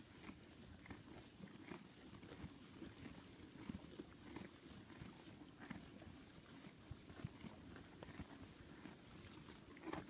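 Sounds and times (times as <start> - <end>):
ponies chewing hay: 0.0 - 10.0.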